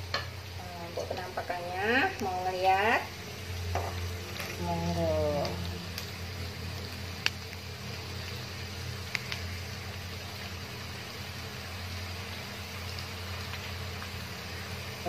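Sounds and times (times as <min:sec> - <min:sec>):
chicken sizzling in a wok: 0:00.0 - 0:15.0
low steady hum: 0:00.0 - 0:15.0.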